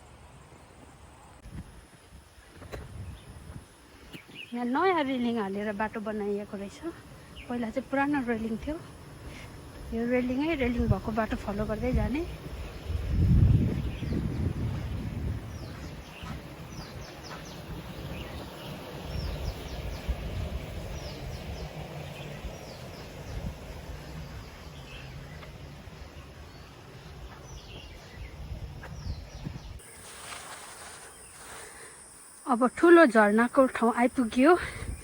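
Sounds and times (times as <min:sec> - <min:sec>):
birds chirping: 0:03.0 - 0:35.0.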